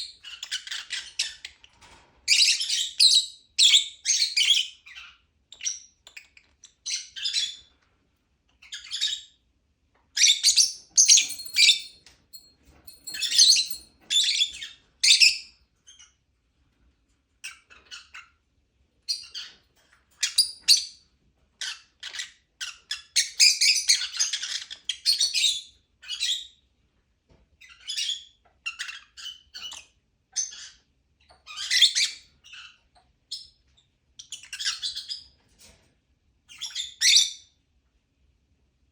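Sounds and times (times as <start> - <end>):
lovebirds chirping and squawking: 0.0 - 7.9, 8.5 - 9.5, 10.1 - 16.2, 17.3 - 26.7, 27.6 - 35.9, 36.5 - 37.6.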